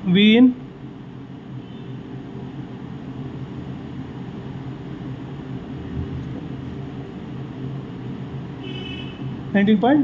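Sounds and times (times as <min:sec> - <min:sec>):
low room hum with hiss: 0:00.0 - 0:10.0.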